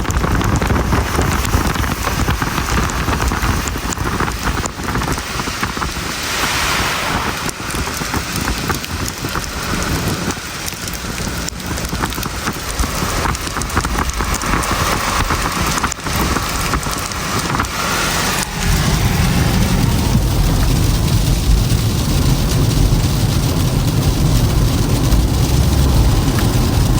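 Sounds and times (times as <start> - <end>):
deep rumble: 0.0 - 26.9
snow and ice ticking on car: 0.0 - 26.9
tyre and road noise: 0.0 - 26.9.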